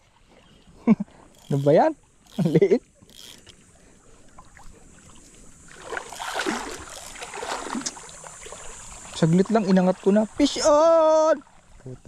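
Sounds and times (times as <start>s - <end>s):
shallow sea water sloshing: 0.0s - 12.0s.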